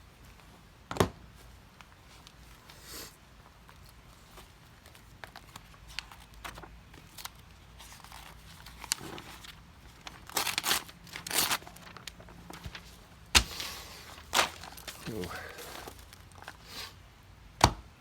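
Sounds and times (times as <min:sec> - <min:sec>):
knife crinkling material: 0:01.8 - 0:16.9.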